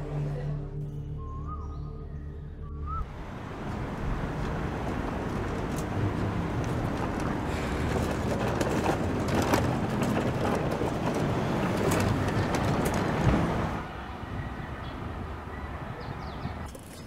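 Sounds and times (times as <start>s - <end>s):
traffic rumble: 2.5s - 17.0s.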